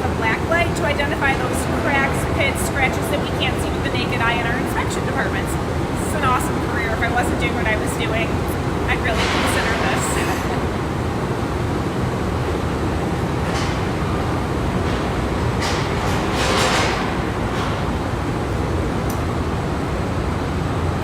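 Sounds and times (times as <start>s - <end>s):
factory machinery drone: 0.0s - 21.0s.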